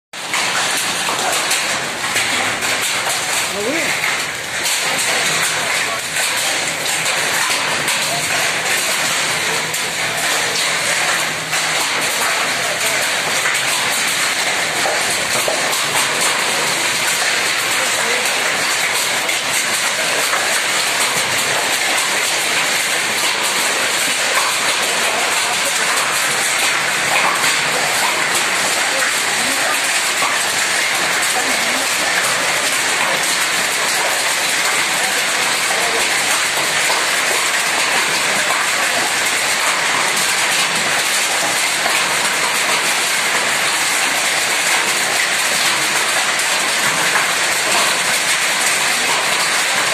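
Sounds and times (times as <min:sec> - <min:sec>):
hail and rain pelting down: 0:00.2 - 0:49.9.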